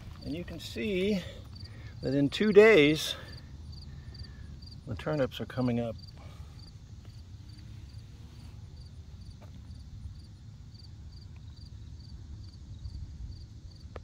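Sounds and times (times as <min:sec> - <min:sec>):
cricket chirping: 0:00.0 - 0:14.0
steady low rumble: 0:00.0 - 0:14.0.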